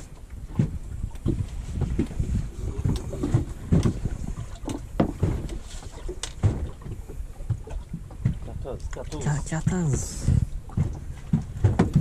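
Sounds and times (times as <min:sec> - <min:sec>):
waves slapping boat hull: 0:00.0 - 0:12.0
wind on microphone: 0:00.0 - 0:12.0.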